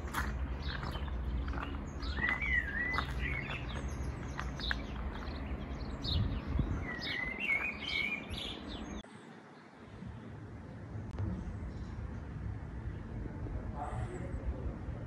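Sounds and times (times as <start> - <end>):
steady low rumble: 0.0 - 9.0, 10.0 - 15.0
songbirds singing and chirping: 0.0 - 14.6.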